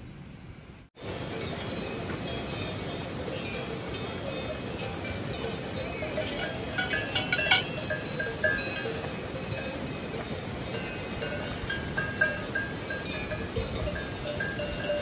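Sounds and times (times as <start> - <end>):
cowbells clanking: 1.0 - 15.0
river rushing: 1.0 - 15.0.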